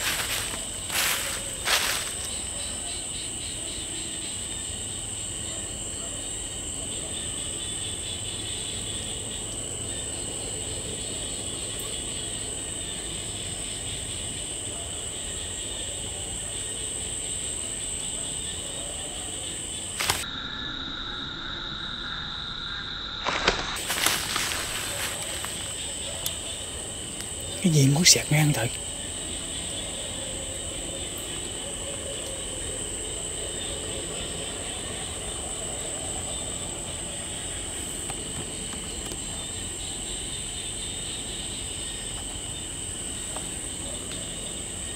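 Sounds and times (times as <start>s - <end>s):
night insects chorus: 0.0s - 44.9s.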